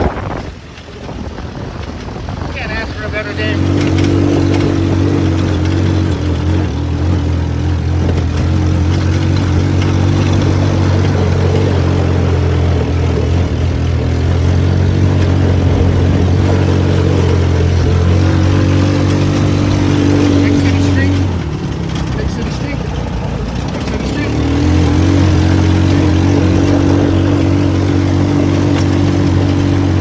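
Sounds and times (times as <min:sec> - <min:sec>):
buggy engine running: 0:00.0 - 0:30.0.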